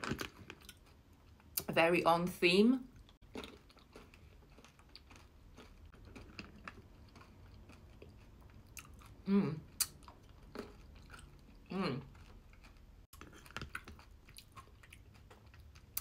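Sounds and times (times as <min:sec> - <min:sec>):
chewing and crunching candy: 0:00.0 - 0:01.7, 0:02.9 - 0:16.0.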